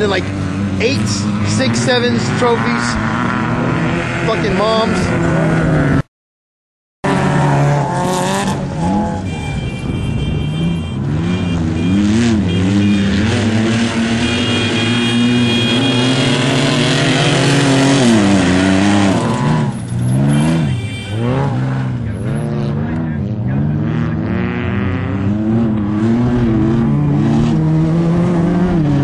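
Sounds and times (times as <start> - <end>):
off-road vehicle engines revving: 0.0 - 6.0, 7.0 - 29.0.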